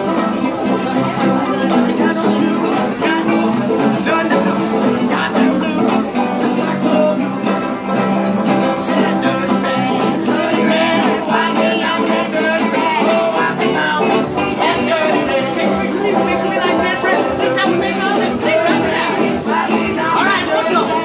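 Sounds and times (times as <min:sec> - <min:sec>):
banjos and acoustic guitars: 0:00.0 - 0:21.0
person singing: 0:00.0 - 0:21.0.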